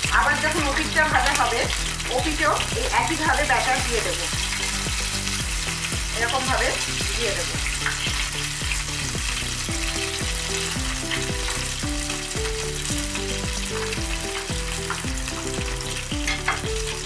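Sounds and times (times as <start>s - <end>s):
prawns sizzling in oil: 0.0s - 17.0s.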